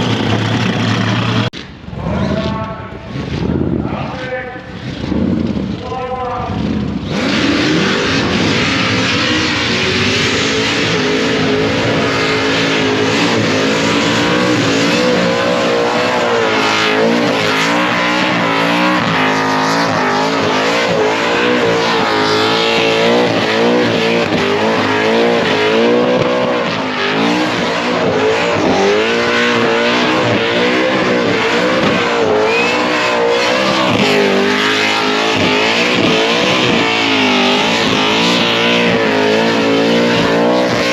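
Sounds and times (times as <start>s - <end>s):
car engine at high revs: 0.0s - 1.7s, 2.4s - 40.9s.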